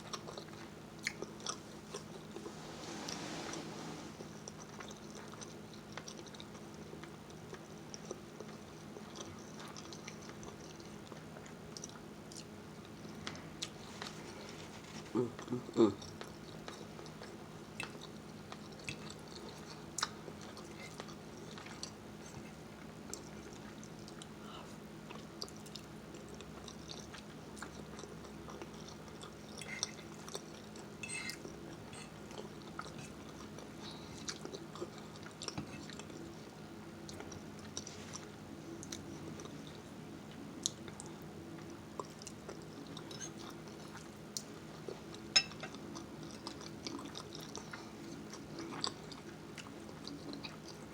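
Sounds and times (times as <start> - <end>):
person chewing food: 0.0 - 3.5, 4.2 - 24.4, 25.0 - 50.9
faint low hum: 0.0 - 50.9.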